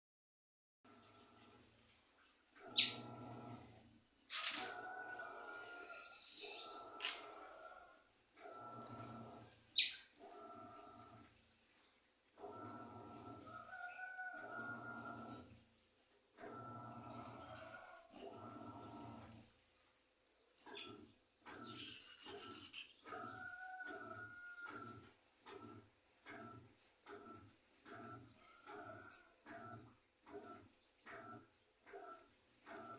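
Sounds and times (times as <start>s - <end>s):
small birds chirping: 0.9s - 3.8s, 4.8s - 32.9s.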